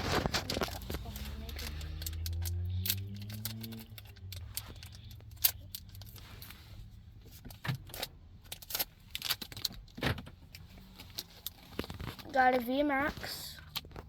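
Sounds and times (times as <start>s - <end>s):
cards and wrapper rustling: 0.0s - 6.7s, 7.4s - 10.0s, 10.8s - 14.0s.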